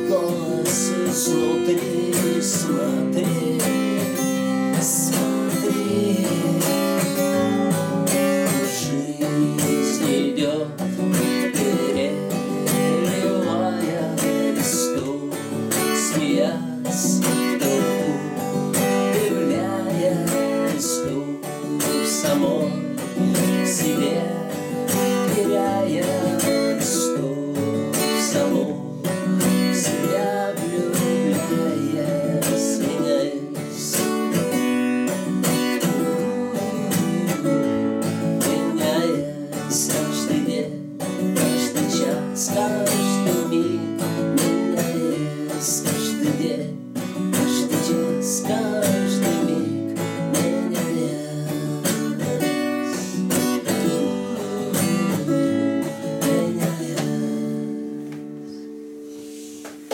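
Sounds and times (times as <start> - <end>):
man singing: 0.0 - 57.8
acoustic guitar strumming: 0.0 - 59.9.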